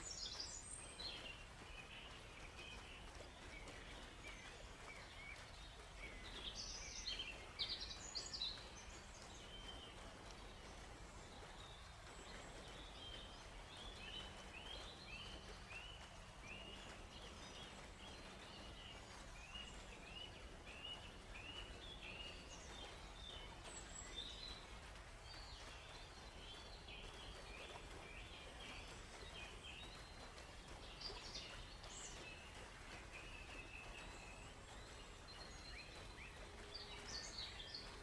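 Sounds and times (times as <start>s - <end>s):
faint background hiss: 0.0s - 38.0s
forest birds chirping: 0.0s - 38.0s.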